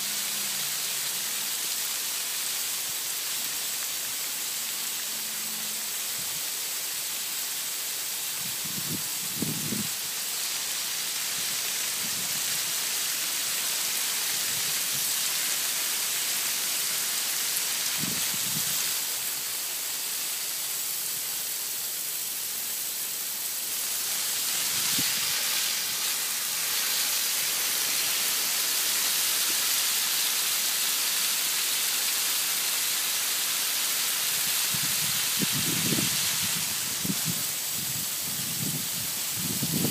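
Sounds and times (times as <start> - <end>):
garden hose spray hissing: 0.0 - 39.9.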